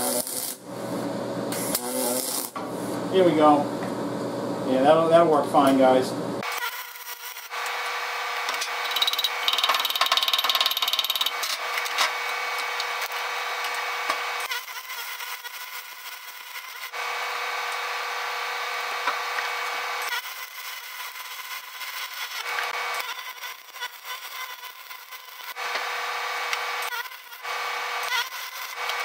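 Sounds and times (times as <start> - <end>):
welding arc crackling: 0.0 - 0.8, 1.5 - 2.6, 6.4 - 29.0.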